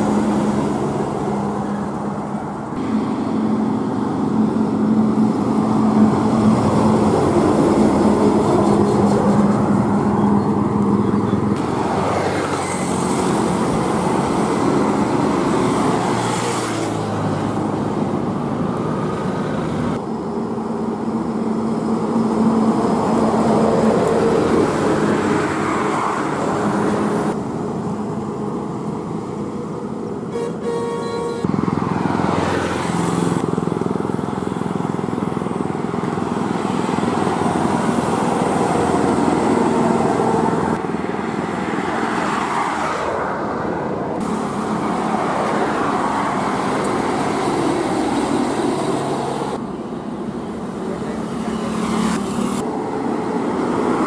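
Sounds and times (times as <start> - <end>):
lorry engines running: 0.0 - 43.2, 43.9 - 54.0.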